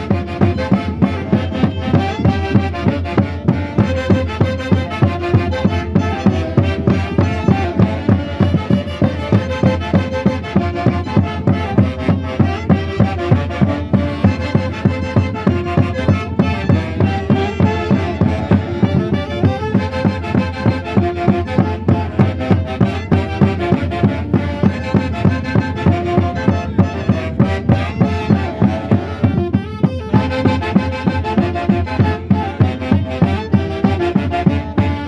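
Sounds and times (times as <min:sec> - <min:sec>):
live band festival music: 0:00.0 - 0:35.0.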